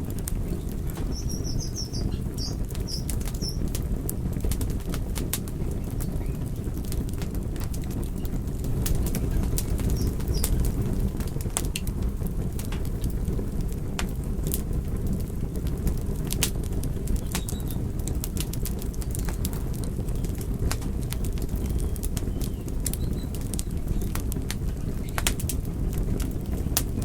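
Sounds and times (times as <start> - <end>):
fire flames rushing: 0.0 - 27.0
logs crackling and popping: 0.0 - 27.0.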